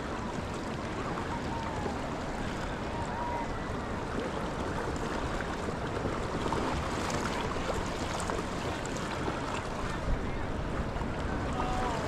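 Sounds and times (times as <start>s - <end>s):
ocean surf: 0.0s - 12.0s
small water splashes: 0.0s - 12.0s.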